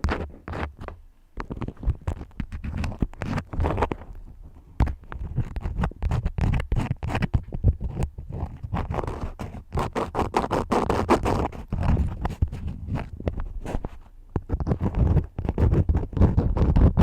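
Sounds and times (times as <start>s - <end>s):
wax crayons scratching and tapping: 0.0s - 4.0s, 4.8s - 17.0s.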